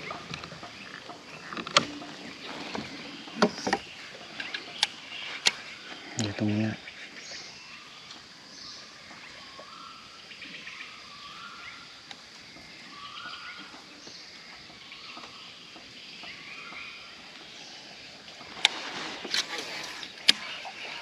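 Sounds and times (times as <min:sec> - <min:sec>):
birds calling: 0:00.0 - 0:21.0
outdoor background hiss: 0:00.0 - 0:21.0.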